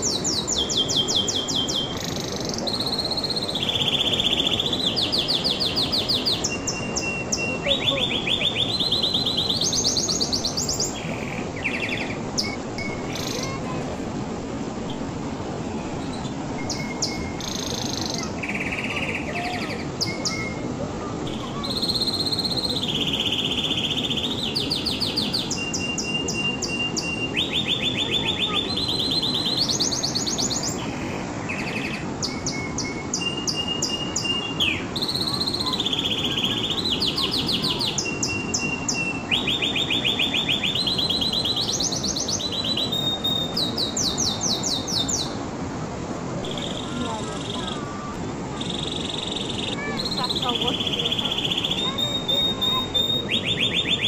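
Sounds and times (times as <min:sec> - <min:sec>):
canary singing trills: 0:00.0 - 0:13.7, 0:16.0 - 0:20.6, 0:21.3 - 0:45.4, 0:46.4 - 0:47.9, 0:48.6 - 0:54.0
low background noise: 0:00.0 - 0:54.0.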